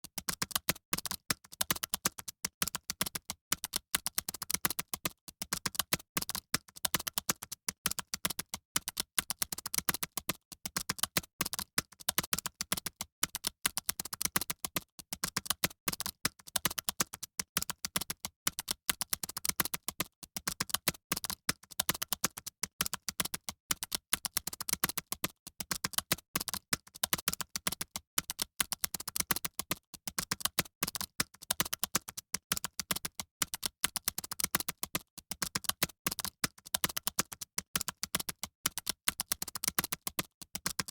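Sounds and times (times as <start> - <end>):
keyboards typing: 0.2 - 40.9.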